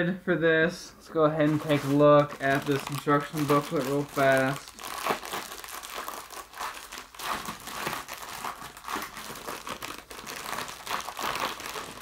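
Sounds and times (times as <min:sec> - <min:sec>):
plastic packaging crinkling: 0:01.1 - 0:12.0.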